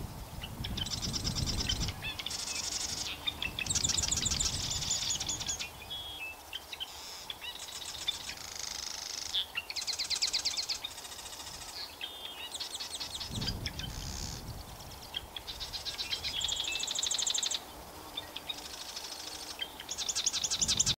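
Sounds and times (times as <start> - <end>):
songbirds trilling: 0.0 - 21.0.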